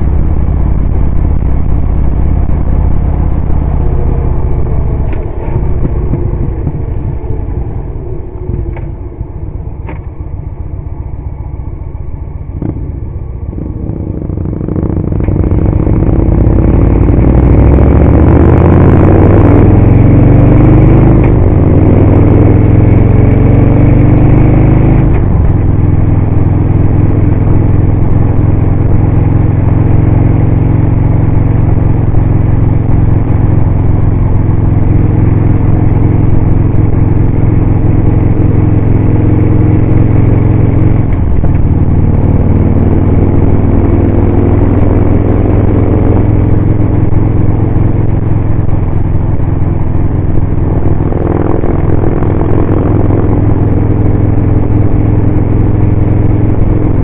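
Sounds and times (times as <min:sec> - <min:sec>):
motorcycle engine: 0:00.0 - 0:57.0
wind noise: 0:00.0 - 0:57.0.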